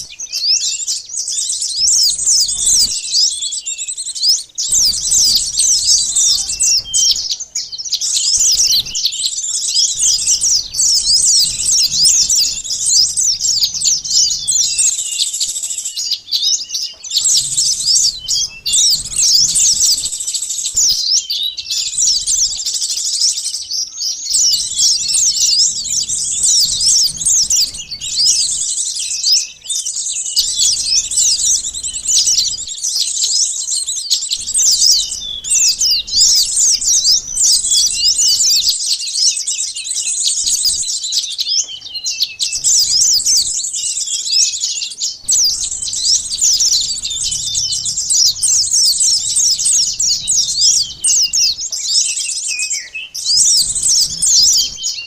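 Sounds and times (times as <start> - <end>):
sunbirds chirping: 0.0 - 55.0.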